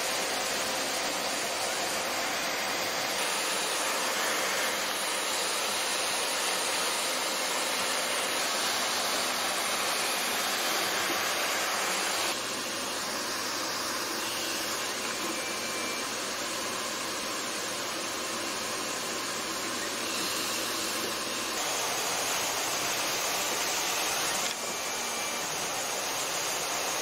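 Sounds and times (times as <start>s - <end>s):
vacuum motor running: 0.0s - 27.0s.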